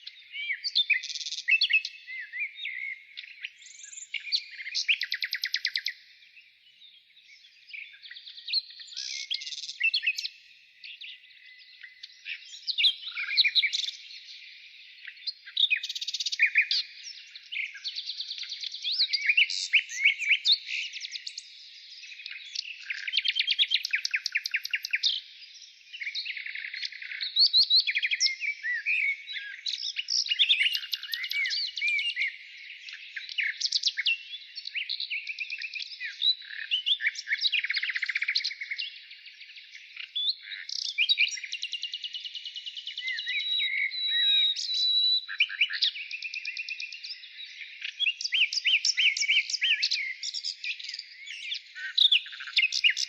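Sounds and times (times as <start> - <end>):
birds singing and calling: 0.0 - 53.0.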